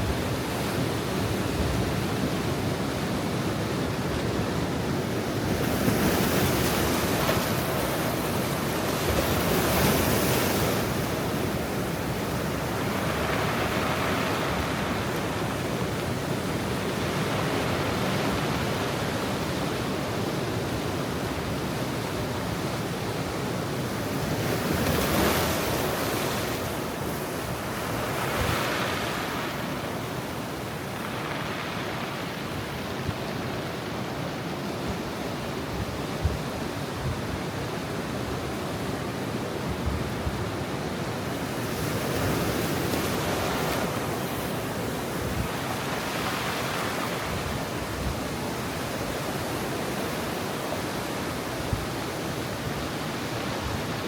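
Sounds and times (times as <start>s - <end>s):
surf washing against rocky shore: 0.0s - 37.3s, 39.2s - 54.0s.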